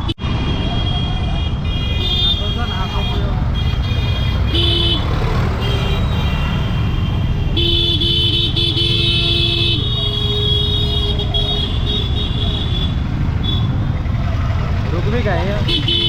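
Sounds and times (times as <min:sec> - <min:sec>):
vehicle horns honking: 0:00.0 - 0:14.0, 0:15.6 - 0:16.0
low traffic rumble: 0:00.0 - 0:16.0.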